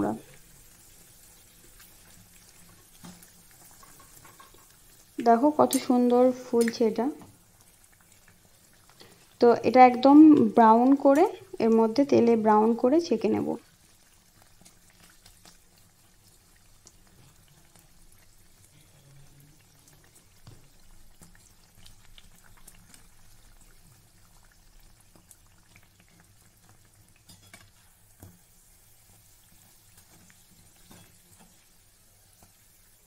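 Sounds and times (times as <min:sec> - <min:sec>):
bread deep-frying in hot oil: 0:00.0 - 0:33.0.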